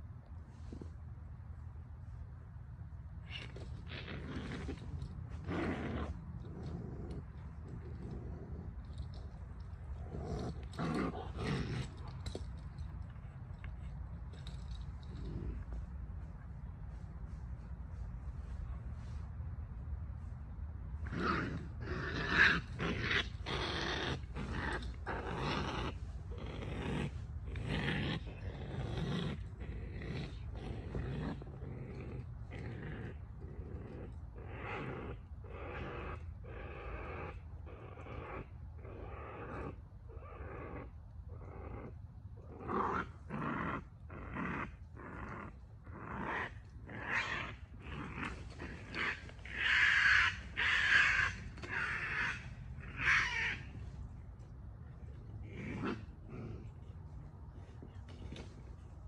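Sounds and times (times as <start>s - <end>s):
raccoon growling and snarling: 3.2s - 15.9s, 21.0s - 54.2s, 54.8s - 59.0s.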